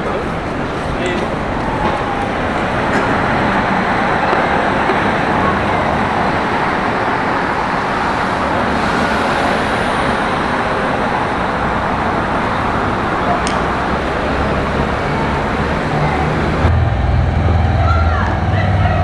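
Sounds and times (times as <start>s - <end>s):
road traffic rushing past: 0.0s - 19.0s.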